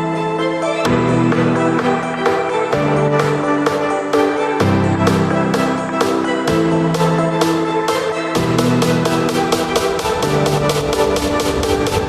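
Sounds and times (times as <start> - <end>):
steady percussive beat: 0.9 - 12.0.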